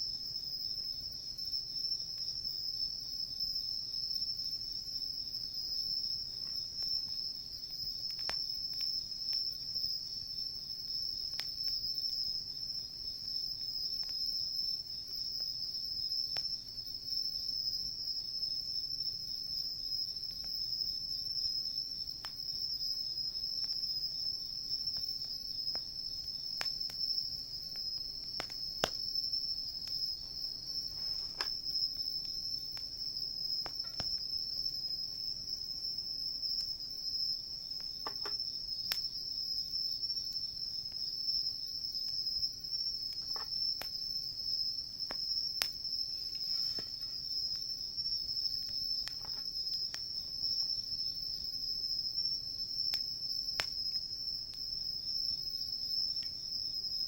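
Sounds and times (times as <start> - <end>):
crickets trilling: 0.0 - 57.0
campfire crackling and popping: 3.4 - 17.8, 18.4 - 56.4.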